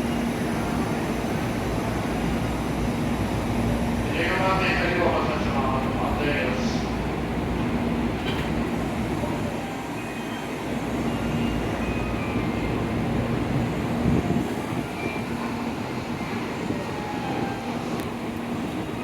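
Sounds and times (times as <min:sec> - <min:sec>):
train hum and rumble: 0:00.0 - 0:19.0.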